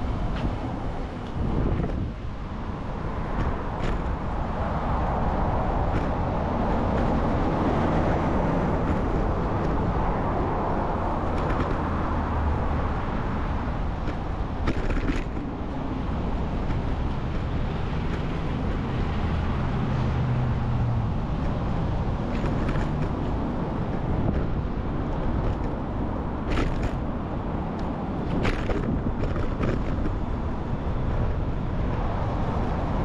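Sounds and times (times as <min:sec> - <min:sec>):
city road traffic: 0:00.0 - 0:33.0
wind buffeting microphone: 0:00.0 - 0:33.0.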